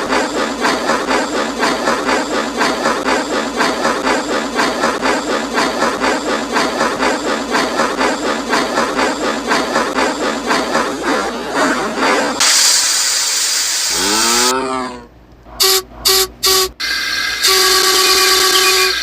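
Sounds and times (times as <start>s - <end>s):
steam locomotive chuffing: 0.0s - 14.5s, 15.6s - 19.0s.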